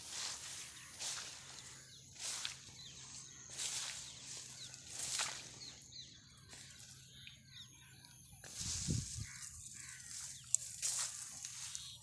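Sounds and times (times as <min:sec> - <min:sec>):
rice stalks rustling underfoot: 0:00.0 - 0:07.0, 0:08.4 - 0:12.0
faint bird chirps: 0:00.1 - 0:12.0.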